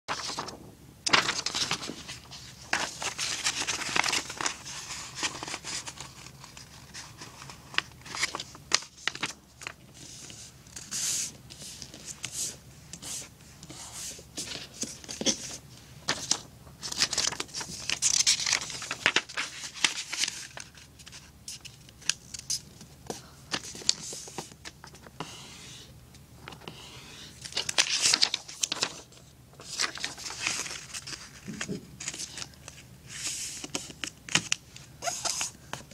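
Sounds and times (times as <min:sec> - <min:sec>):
paper crinkling and creasing: 0:00.1 - 0:35.9.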